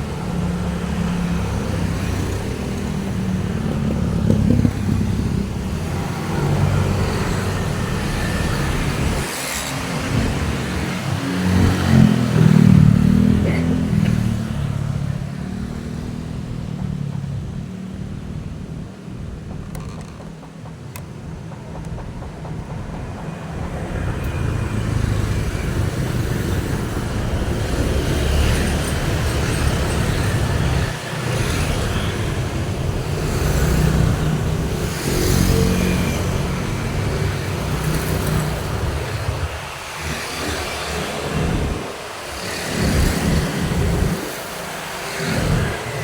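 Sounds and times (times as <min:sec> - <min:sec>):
motor vehicles passing: 0:00.0 - 0:46.0.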